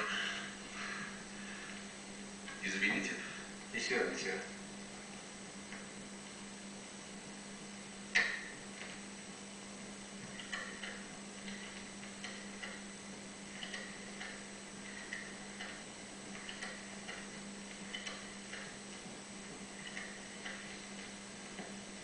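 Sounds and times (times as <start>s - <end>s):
low hum from speaker: 0.0s - 22.0s.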